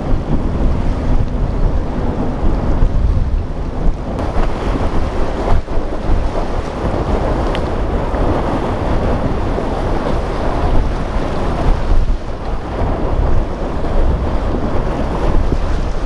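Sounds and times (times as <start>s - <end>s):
choppy water and breaking wake: 0.0s - 16.0s
outboard motor running: 0.0s - 16.0s
wind on microphone: 0.0s - 16.0s.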